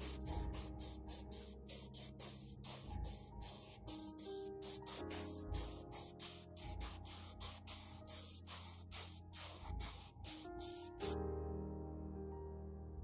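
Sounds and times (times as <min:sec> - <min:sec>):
short hissing strokes: 0:00.0 - 0:11.2
soft background music: 0:00.0 - 0:13.0.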